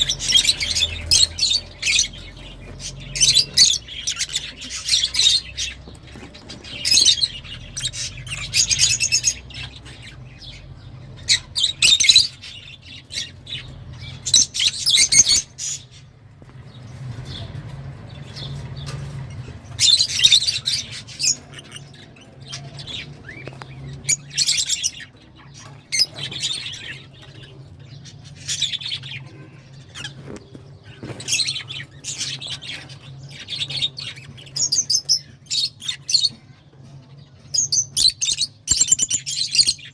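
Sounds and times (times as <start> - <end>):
lovebirds chattering shrilly: 0.0 - 36.4, 37.5 - 39.9.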